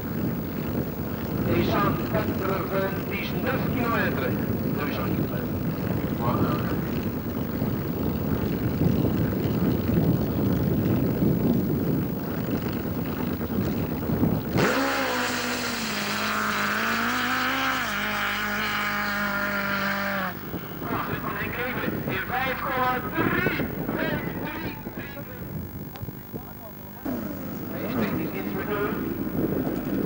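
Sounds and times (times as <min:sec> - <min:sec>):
high steady engine note: 0:00.0 - 0:30.0
motorcycle engine running rough: 0:00.0 - 0:30.0.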